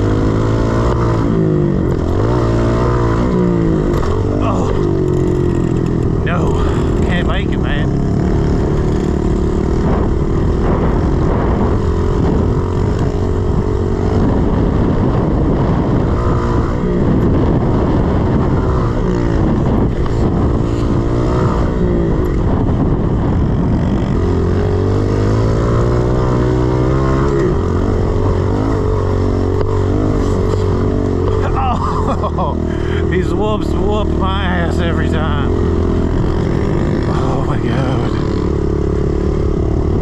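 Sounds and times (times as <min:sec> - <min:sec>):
motorbike engine revving: 0:00.0 - 0:40.0.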